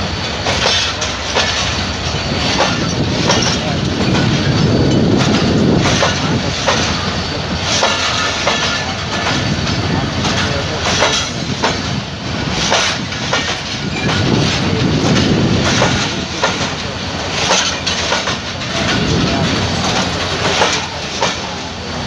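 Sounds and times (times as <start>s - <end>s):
train wheels clacking on rail joints: 0.0s - 22.0s.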